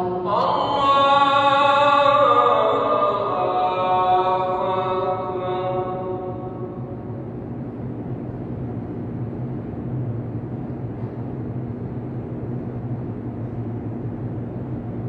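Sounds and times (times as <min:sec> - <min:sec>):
low hum of hall ambience: 0:00.0 - 0:15.0.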